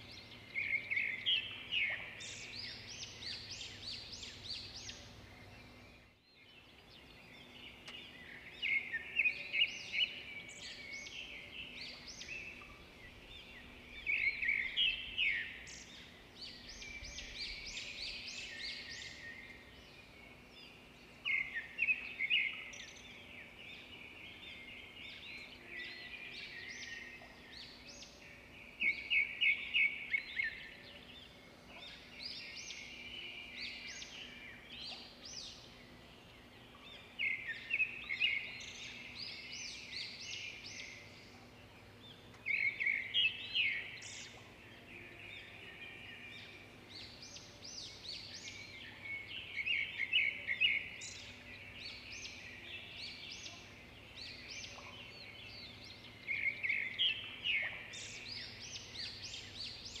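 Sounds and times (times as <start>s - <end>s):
songbird chirping: 0.0s - 60.0s.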